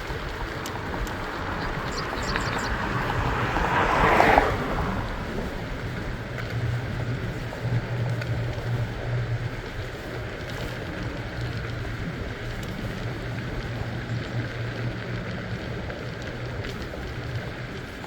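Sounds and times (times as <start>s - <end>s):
bicycle rolling noise: 0.0s - 18.0s
faint ticks: 0.0s - 18.0s
low hum: 0.0s - 18.0s
wind rumble on microphone: 0.0s - 18.0s.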